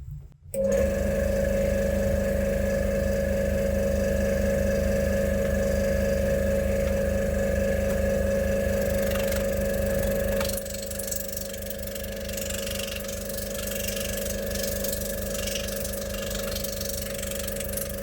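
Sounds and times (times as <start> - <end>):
motor droning hum: 0.0 - 18.0.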